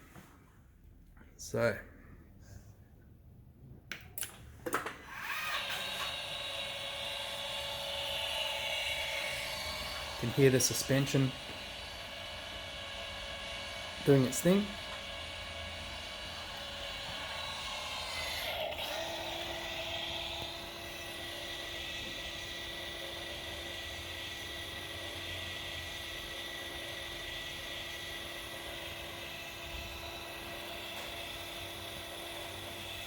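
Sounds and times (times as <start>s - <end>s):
electric motor whine: 5.0s - 33.0s.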